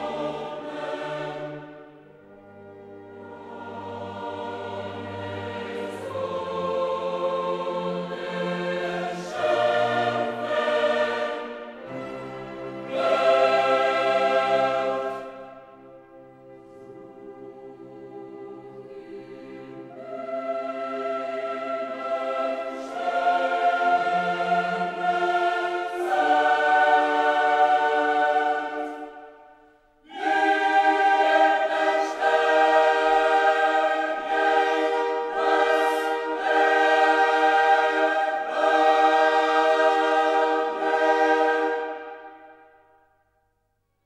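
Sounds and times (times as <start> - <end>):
choir singing held chords: 0.0 - 43.5.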